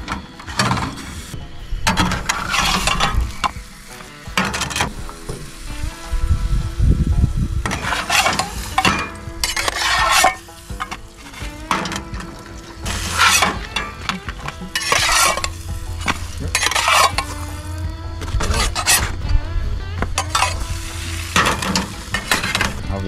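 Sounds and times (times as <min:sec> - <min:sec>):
metal utensil scraping pan: 0:00.0 - 0:06.1, 0:07.6 - 0:22.8.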